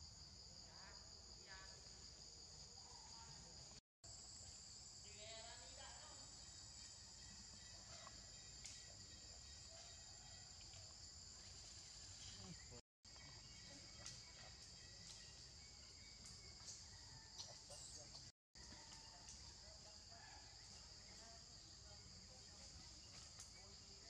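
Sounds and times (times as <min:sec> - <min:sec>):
forest insects buzzing: 0:00.0 - 0:24.0.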